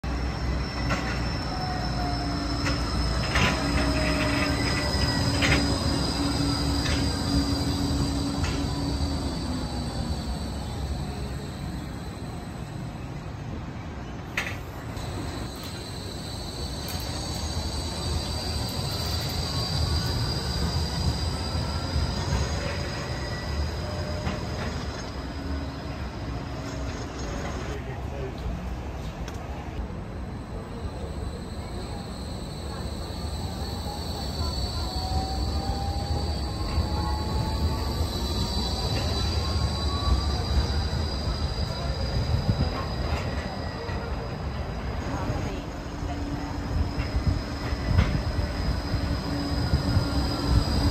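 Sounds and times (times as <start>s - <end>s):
high-pitched wheel squeal: 0.0s - 13.0s, 15.0s - 27.4s, 30.3s - 50.9s
tram wheels rumbling on rails: 0.0s - 50.9s.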